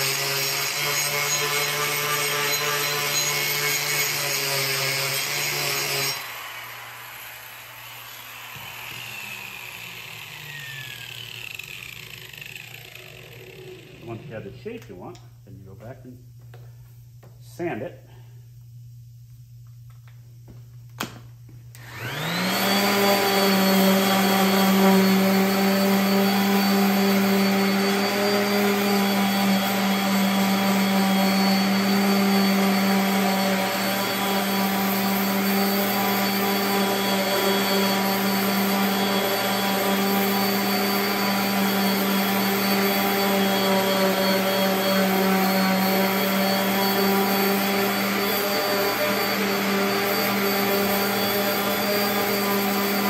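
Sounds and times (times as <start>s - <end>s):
orbital sander sanding wood: 0.0s - 14.8s, 21.8s - 53.0s.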